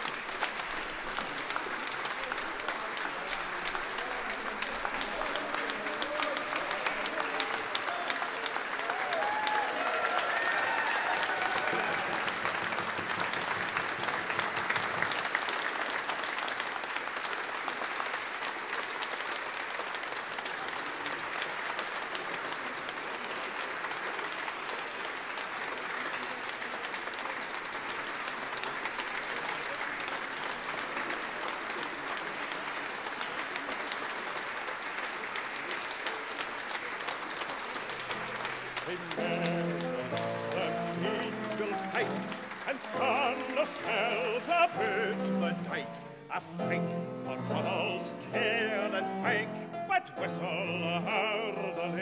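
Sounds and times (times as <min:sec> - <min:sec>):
audience applauding: 0:00.0 - 0:46.7.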